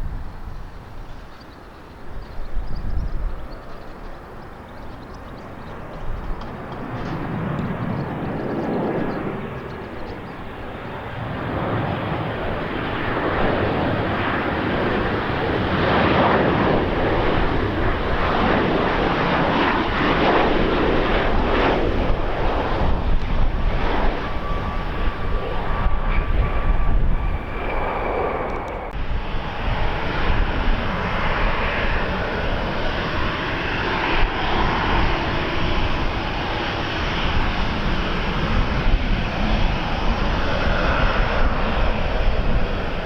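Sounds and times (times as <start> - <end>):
airliner engine rushing: 0.0 - 43.0.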